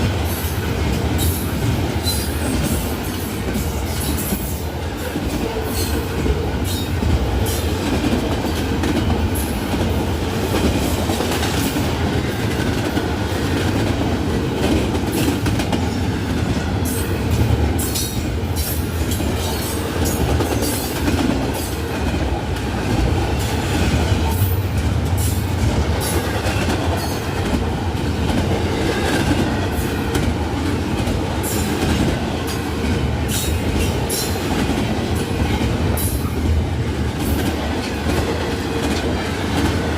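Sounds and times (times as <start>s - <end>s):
freight train rumble: 0.0s - 39.9s.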